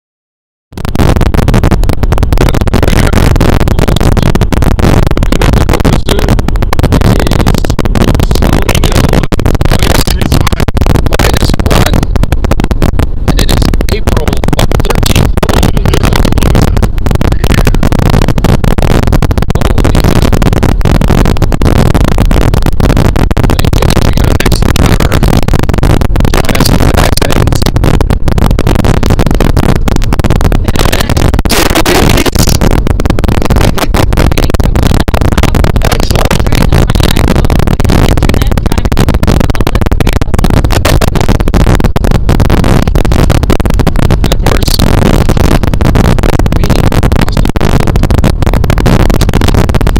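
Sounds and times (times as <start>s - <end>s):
heavily distorted noise: 0.7s - 49.9s.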